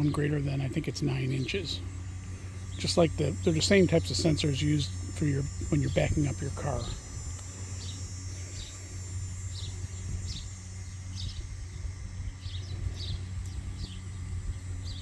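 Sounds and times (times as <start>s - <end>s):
high insect-like whine: 0.0s - 15.0s
steady low hum: 0.0s - 15.0s.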